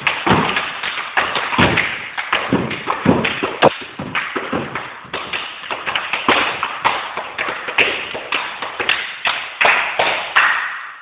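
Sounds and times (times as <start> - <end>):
feet stamping on wooden floor: 0.0 - 9.4.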